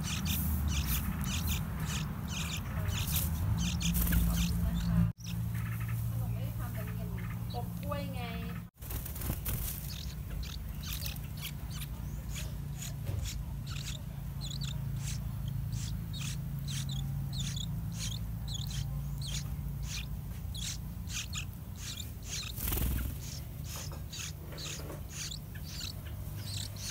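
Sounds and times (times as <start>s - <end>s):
bird chicks begging calls: 0.0s - 26.9s
steady low hum: 0.0s - 26.9s.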